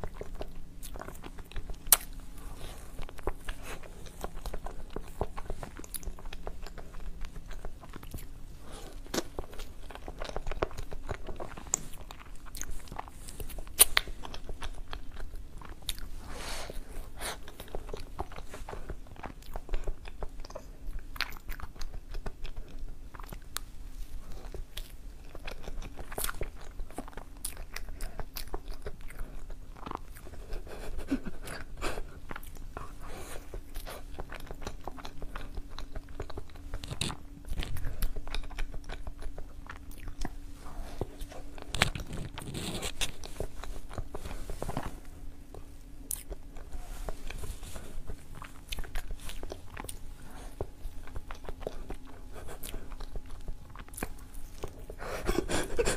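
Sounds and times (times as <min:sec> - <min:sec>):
chewing soft cake: 0:00.0 - 0:55.9.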